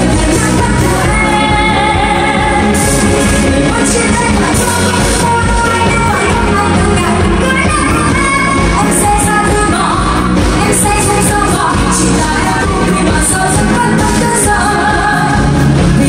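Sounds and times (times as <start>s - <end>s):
pop band playing: 0.0s - 16.0s
woman singing: 0.0s - 16.0s.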